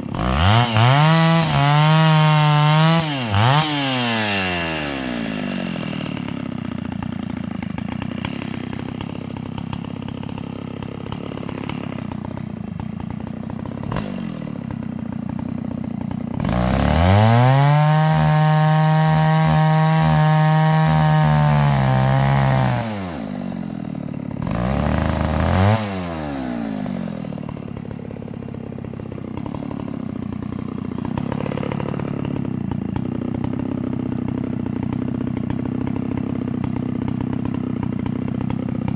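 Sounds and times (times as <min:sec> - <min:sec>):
small engine revving: 0:00.0 - 0:38.9.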